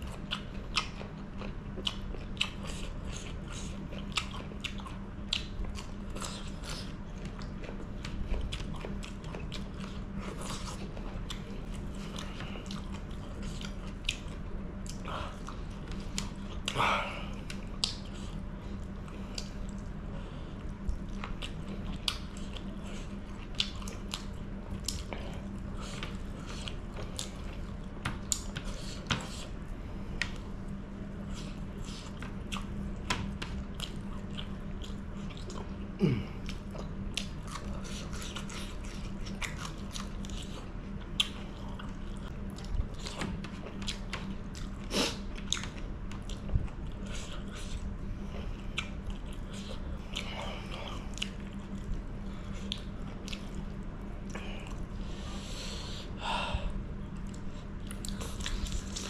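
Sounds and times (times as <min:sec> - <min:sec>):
chewing and biting food: 0:00.0 - 0:55.5, 0:57.0 - 0:59.0
steady low hum: 0:00.0 - 0:59.0.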